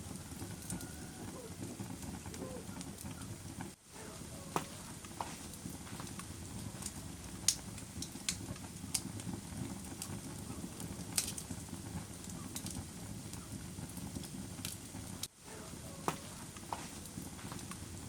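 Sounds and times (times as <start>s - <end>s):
fire pops and snaps: 0.0s - 18.0s
wood fire crackling: 0.0s - 18.0s.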